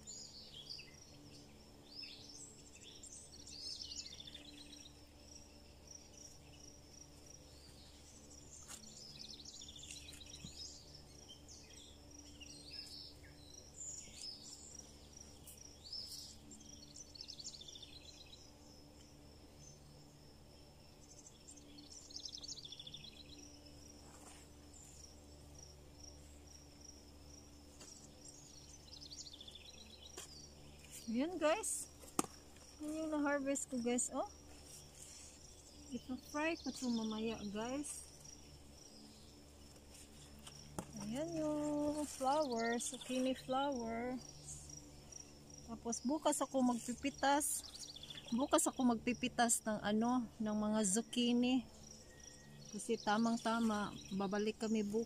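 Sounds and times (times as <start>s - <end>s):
pulsing insect trill: 0.0s - 55.0s
songbirds chirping: 0.0s - 55.0s.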